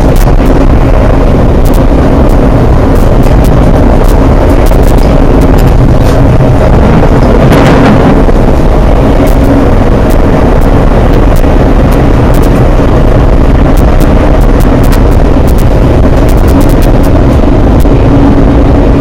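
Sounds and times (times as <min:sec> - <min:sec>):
train rumbling at speed: 0:00.0 - 0:19.0.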